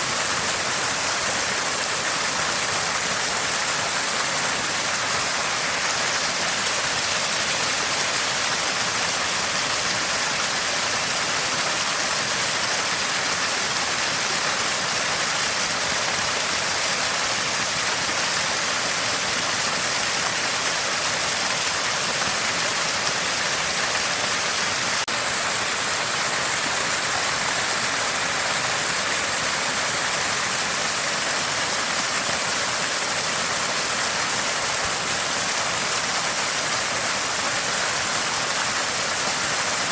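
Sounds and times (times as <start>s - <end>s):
water gushing from a spring: 0.0s - 39.9s.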